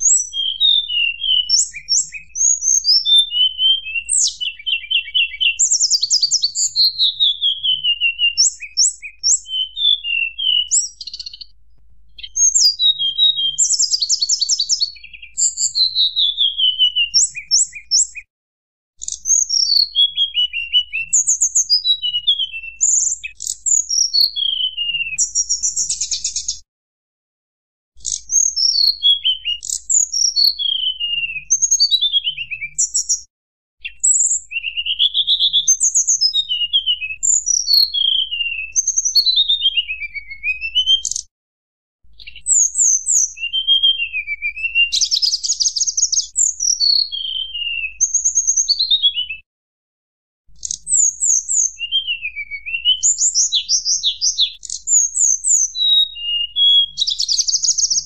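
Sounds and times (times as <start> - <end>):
songbird singing: 0.0 - 18.3, 19.0 - 26.6, 28.0 - 41.3, 42.2 - 49.5, 50.6 - 58.0.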